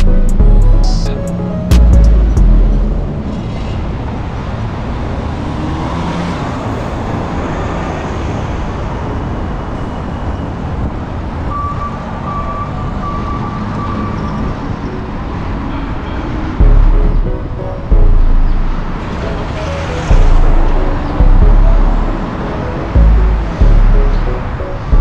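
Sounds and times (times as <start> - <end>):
cars passing: 0.0 - 25.0
road and wind noise: 0.0 - 25.0.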